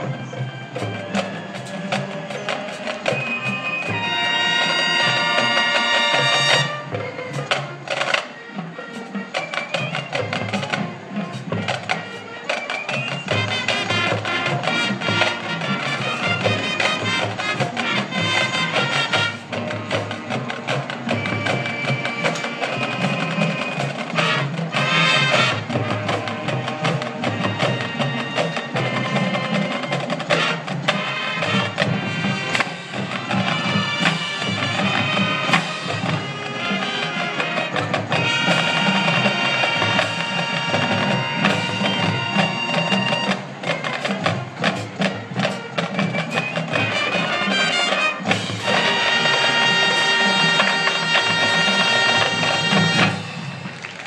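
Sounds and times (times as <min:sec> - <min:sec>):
drumline drum hits: 0:00.0 - 0:54.0
marching band playing: 0:00.0 - 0:54.0.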